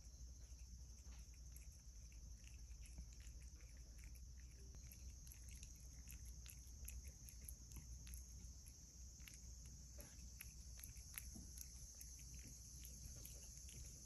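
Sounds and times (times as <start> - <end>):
cat licking and chewing: 0.0 - 14.0.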